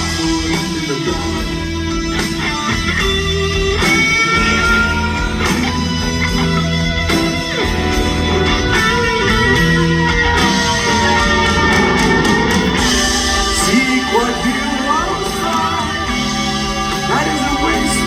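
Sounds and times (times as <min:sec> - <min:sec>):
electric guitar bending notes: 0:00.0 - 0:18.0
live rock band playing: 0:00.0 - 0:18.0.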